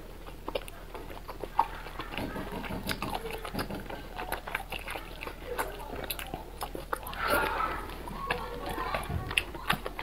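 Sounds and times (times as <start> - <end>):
wet chewing and sucking: 0.0 - 10.0.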